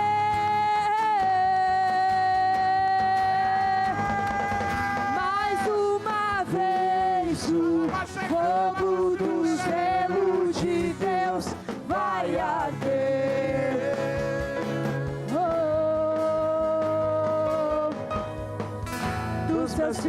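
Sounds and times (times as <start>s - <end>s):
person singing: 0.0s - 18.1s, 19.4s - 20.0s
live worship band music: 0.0s - 20.0s.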